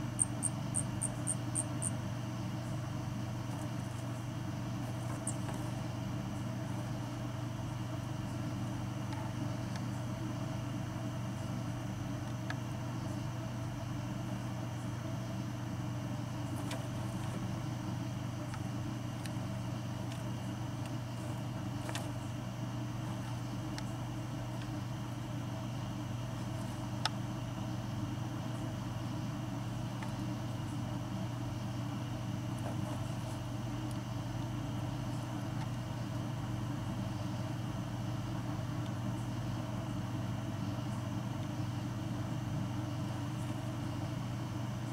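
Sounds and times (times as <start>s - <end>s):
constant hiss: 0.0s - 44.9s
low electrical hum: 0.0s - 44.9s.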